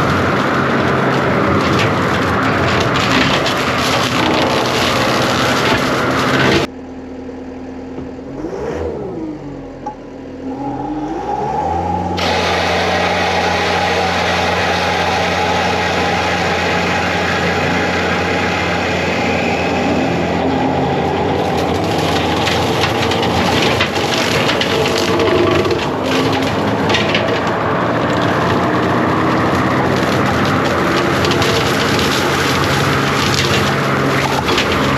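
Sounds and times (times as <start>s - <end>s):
wood cracking and splintering: 0.0s - 6.7s, 12.2s - 34.9s
diesel engine at high revs: 0.0s - 34.9s.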